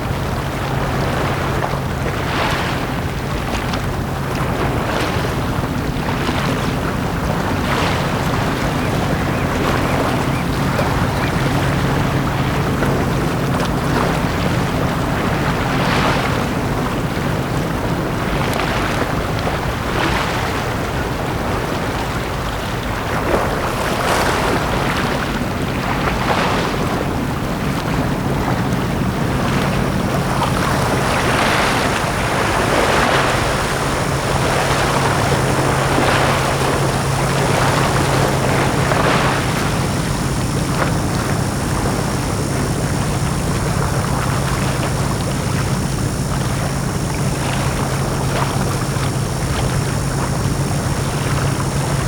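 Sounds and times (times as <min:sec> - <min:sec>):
steady low hum: 0:00.0 - 0:52.0
waves breaking on beach: 0:00.0 - 0:52.0.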